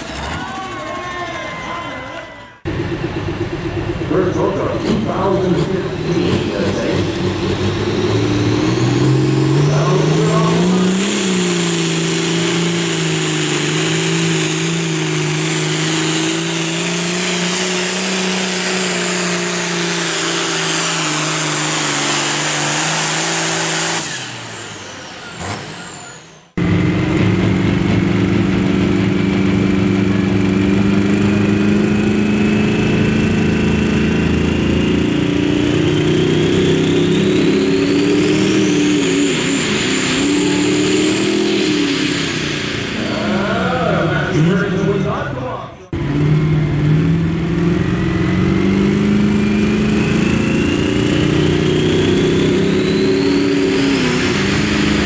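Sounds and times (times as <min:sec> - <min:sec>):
tractor diesel engine revving: 0:00.0 - 0:55.0
turbo whine: 0:00.0 - 0:55.0.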